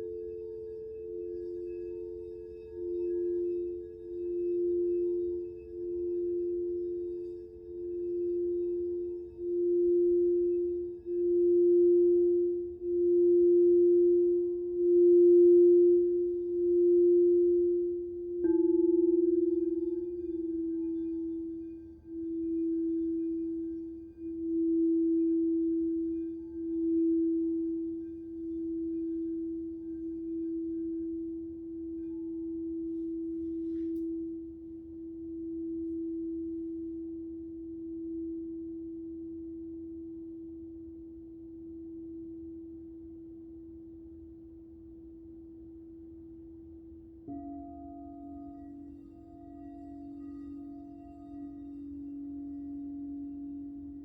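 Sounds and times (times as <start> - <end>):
crystal singing bowl tone: 0.0 - 54.0.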